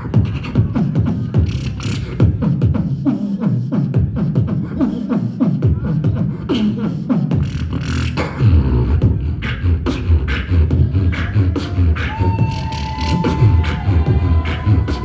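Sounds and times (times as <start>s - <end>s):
beatboxing through a microphone: 0.0s - 15.0s.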